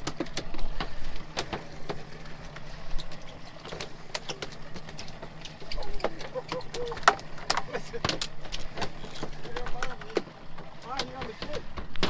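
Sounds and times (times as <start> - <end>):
boat engine humming: 0.0 - 12.0
sharp clicks and knocks: 0.0 - 12.0.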